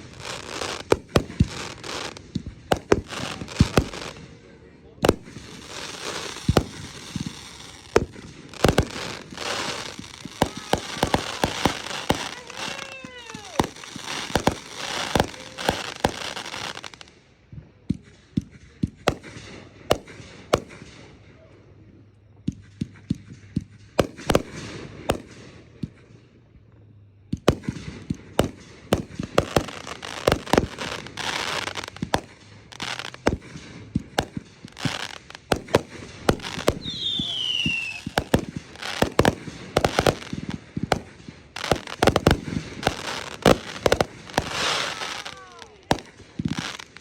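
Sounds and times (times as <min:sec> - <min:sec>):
fireworks banging and crackling: 0:00.0 - 0:21.5, 0:22.3 - 0:26.3, 0:27.2 - 0:47.0.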